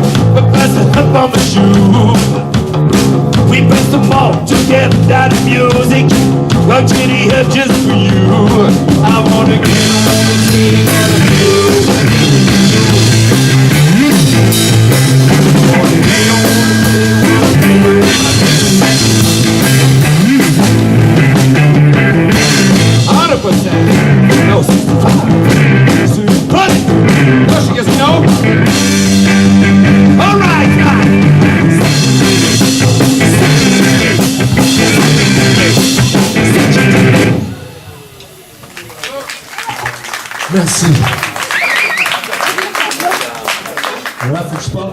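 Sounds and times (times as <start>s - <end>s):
bass guitar: 0.0s - 38.6s
electric guitar: 0.0s - 39.0s
drum kit: 0.0s - 42.2s
rock band playing: 0.0s - 44.9s.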